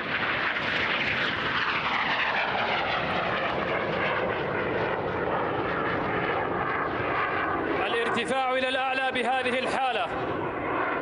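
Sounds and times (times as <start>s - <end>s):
jet engine passing overhead: 0.0s - 11.0s.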